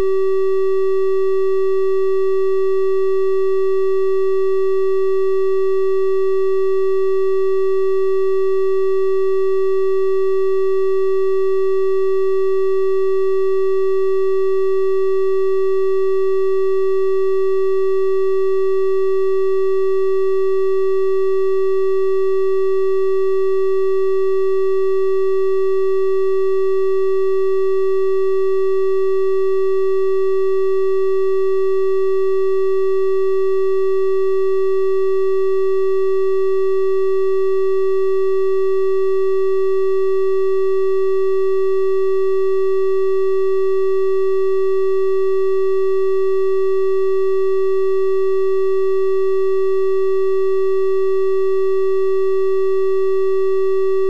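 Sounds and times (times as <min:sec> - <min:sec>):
triangle-wave test tone: 0:00.0 - 0:54.0.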